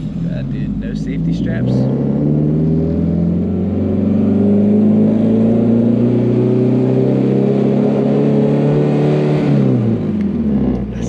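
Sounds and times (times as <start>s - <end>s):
car engine and exhaust: 0.0s - 11.0s.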